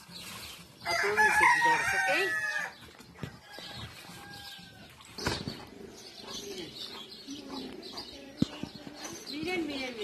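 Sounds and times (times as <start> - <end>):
farmyard animal sounds: 0.0 - 10.0.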